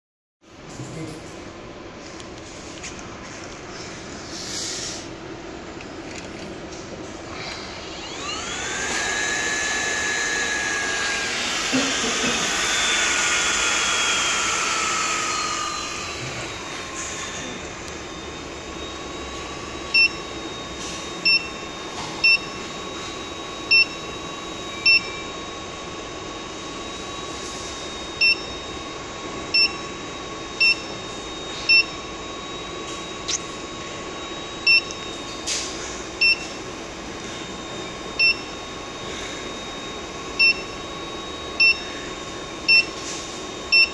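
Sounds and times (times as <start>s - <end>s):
cooling fan whine and air rush: 0.4s - 43.9s.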